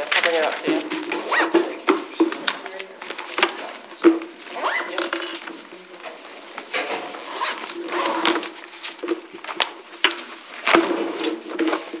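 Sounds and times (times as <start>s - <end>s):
papers rustling and handling: 0.0s - 12.0s.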